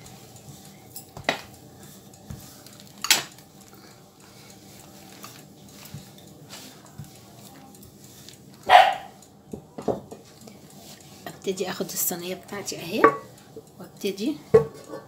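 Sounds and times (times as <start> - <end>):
rolling pin rolling dough: 0.0 - 15.0.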